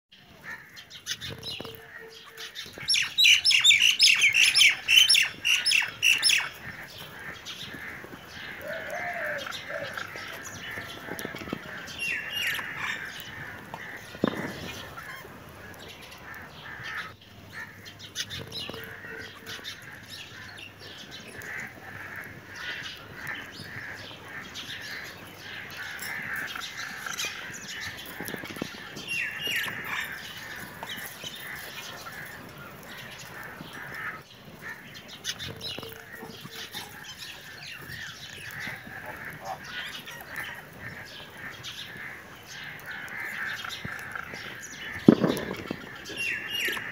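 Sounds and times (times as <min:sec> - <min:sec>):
budgerigars chattering: 0:01.0 - 0:46.9.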